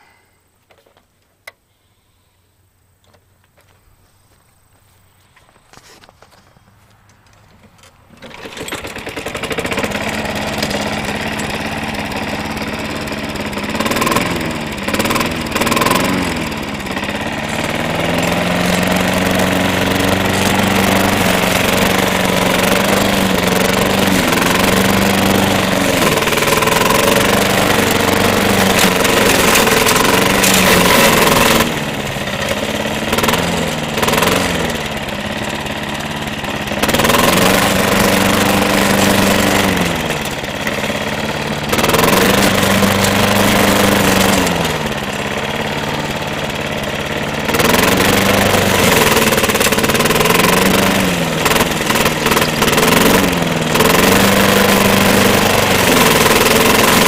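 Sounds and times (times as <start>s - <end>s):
lawn mower engine running: 0.0s - 57.0s
lawn mower pull-start: 5.2s - 57.0s.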